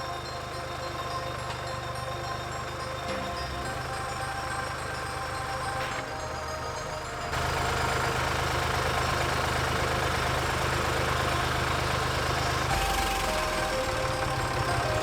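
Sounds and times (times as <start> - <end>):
large engine idling: 0.0 - 15.0.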